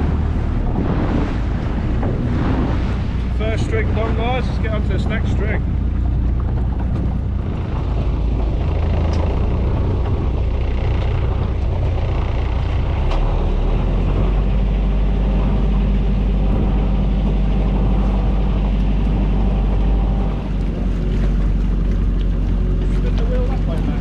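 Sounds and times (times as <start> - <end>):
boat engine running: 0.0 - 24.0
water noise: 0.0 - 24.0
wind: 0.0 - 24.0.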